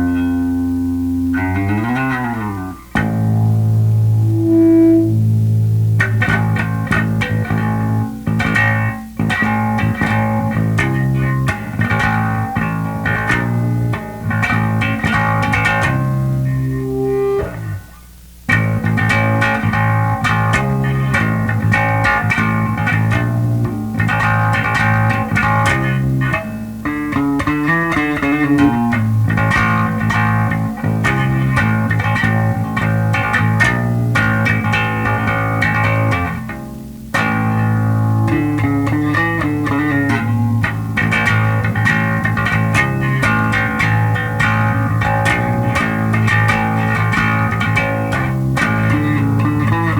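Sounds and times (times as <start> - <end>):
electric bass riffs: 0.0 - 49.9
sliding bass run: 0.0 - 49.9.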